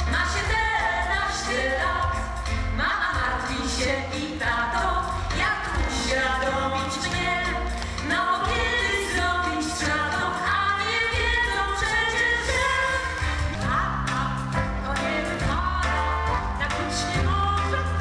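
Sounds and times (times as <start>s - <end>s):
instrumental backing music: 0.0s - 18.0s
woman singing into a microphone: 0.0s - 18.0s.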